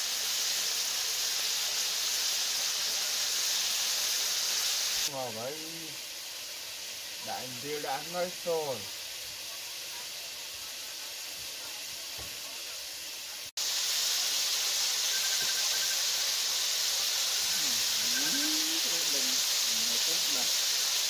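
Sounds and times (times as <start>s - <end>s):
frying in hot oil: 0.0s - 21.0s.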